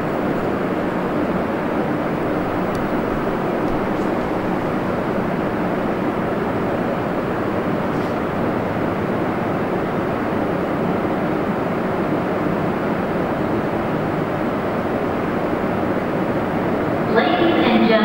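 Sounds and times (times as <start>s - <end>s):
subway station background noise: 0.0s - 18.0s.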